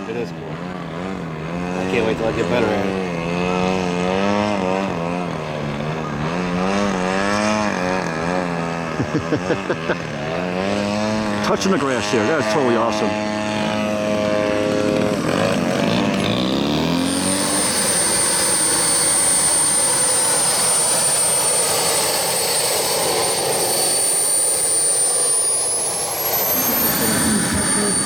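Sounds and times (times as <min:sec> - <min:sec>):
high jet whine: 0:00.0 - 0:28.0
model aircraft engine: 0:00.0 - 0:28.0.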